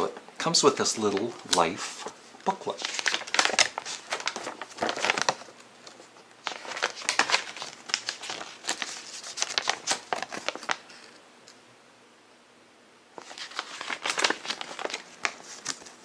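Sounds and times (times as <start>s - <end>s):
paper pages rustling: 0.7s - 11.2s, 13.2s - 16.0s.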